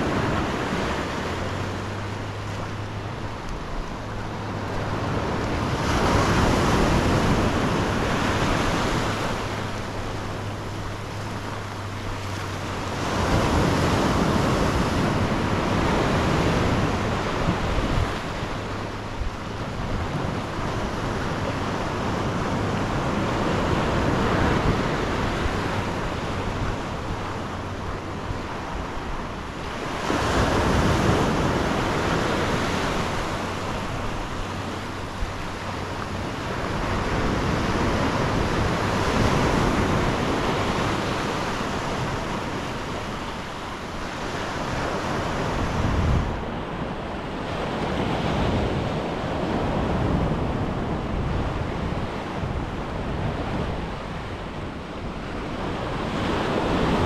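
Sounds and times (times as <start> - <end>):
surf breaking on shore: 0.0 - 57.0
wind rumbling on microphone: 0.0 - 57.0.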